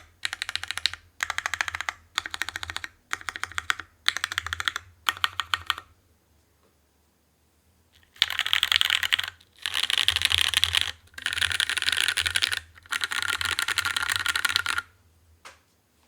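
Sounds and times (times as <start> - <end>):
fast typing on mechanical keyboard: 0.0 - 5.9, 8.0 - 15.0.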